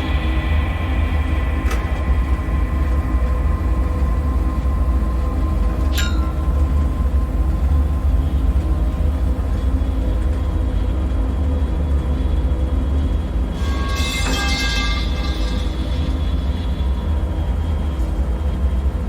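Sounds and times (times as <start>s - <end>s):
deep rumbling drone: 0.0s - 19.0s.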